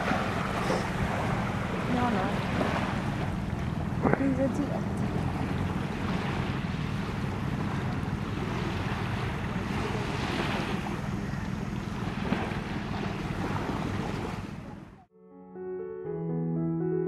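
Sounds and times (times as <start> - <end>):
wind buffeting microphone: 0.0 - 15.0
small waves washing onto beach: 0.0 - 15.1.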